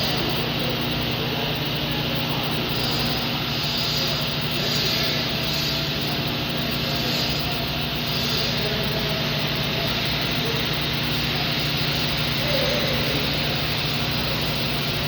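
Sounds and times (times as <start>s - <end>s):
welding arc hiss: 0.0s - 15.0s
welding machine hum: 0.0s - 15.0s.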